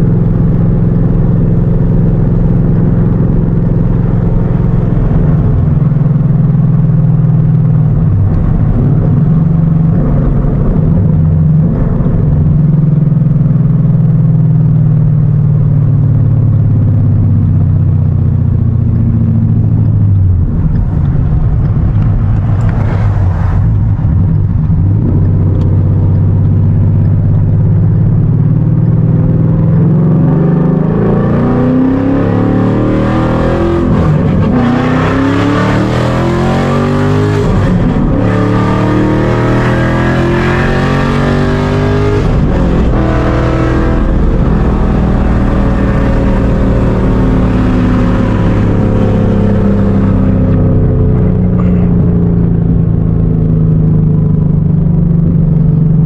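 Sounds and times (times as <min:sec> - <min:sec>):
car engine through open exhaust: 0:00.0 - 0:56.0.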